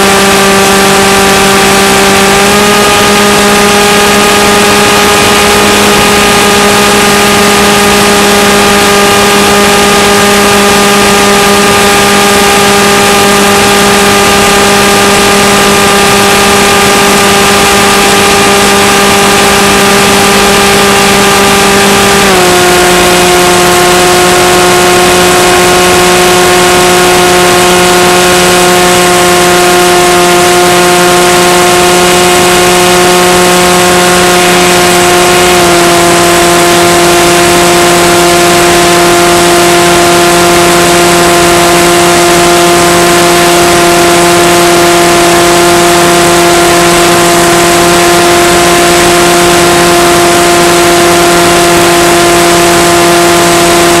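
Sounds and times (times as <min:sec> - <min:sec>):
electric propeller motor droning: 0:00.0 - 0:54.0.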